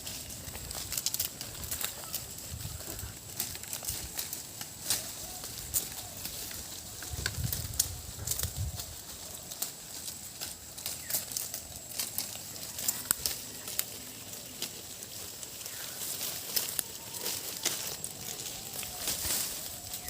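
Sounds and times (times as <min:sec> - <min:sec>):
sheep tearing and chewing grass: 0:00.0 - 0:20.0.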